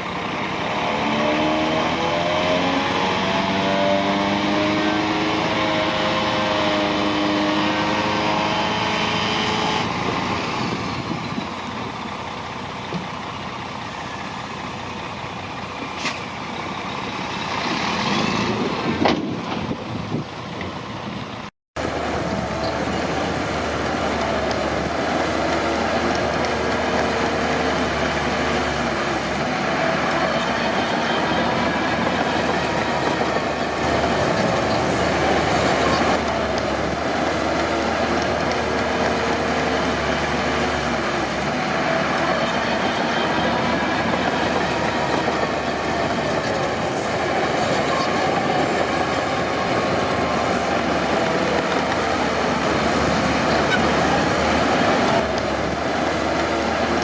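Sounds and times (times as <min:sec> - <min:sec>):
diesel engine of heavy machinery: 0:00.0 - 0:57.0.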